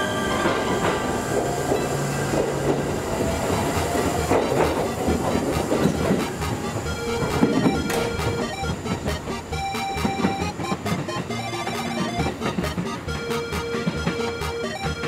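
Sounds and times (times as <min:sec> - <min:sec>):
train rumbling on rails: 0:00.0 - 0:15.0
wheel and track rattle: 0:00.0 - 0:15.0.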